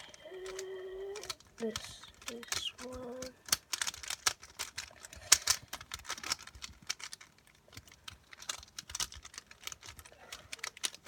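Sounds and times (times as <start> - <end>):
puzzle cube clicking: 0.0 - 11.0.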